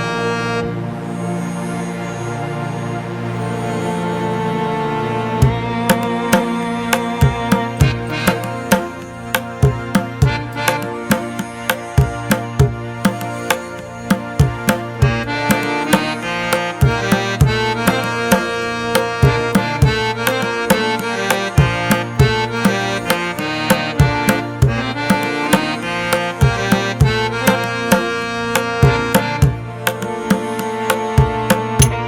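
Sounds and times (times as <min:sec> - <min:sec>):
hand drum beat: 0:05.4 - 0:32.0
pitched instruments: 0:05.4 - 0:32.0.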